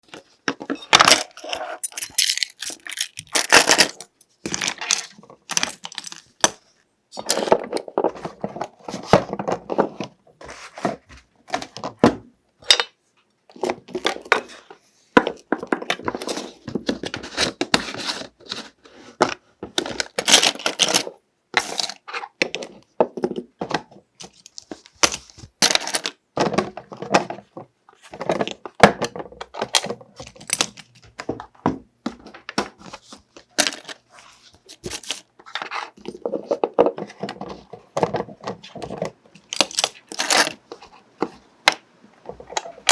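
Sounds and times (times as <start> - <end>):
small objects clattering and rustling: 0.0 - 42.9.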